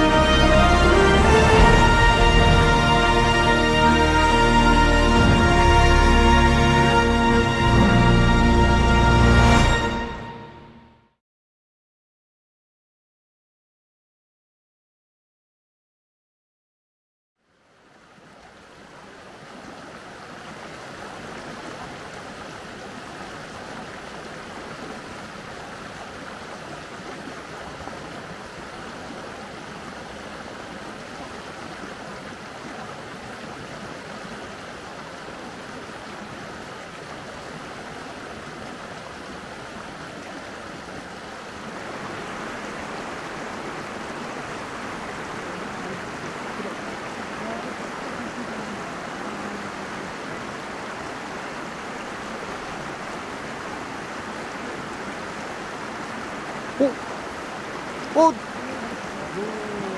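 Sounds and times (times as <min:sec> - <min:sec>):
stream water rushing: 0:00.0 - 0:10.8, 0:17.4 - 0:59.9.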